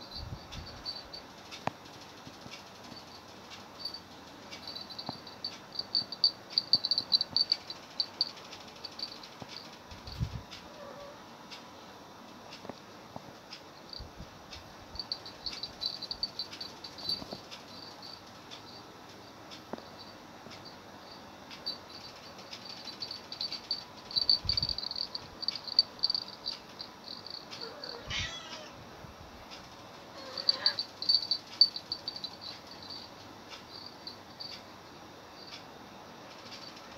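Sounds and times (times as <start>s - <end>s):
insects trilling: 0.0s - 11.2s, 14.8s - 28.8s, 29.7s - 34.6s.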